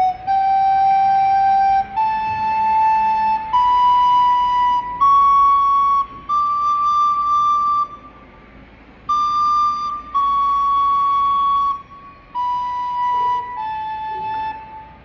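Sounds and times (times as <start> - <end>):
recorder playing held notes: 0.0 - 15.0.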